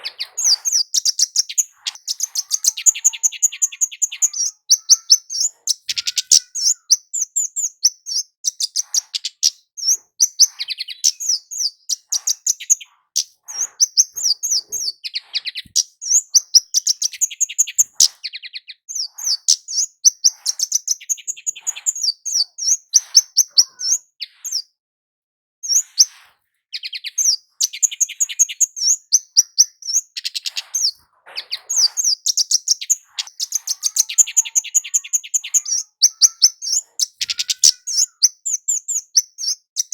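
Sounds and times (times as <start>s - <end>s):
bird high thin chirping: 0.0s - 24.7s, 25.6s - 39.9s.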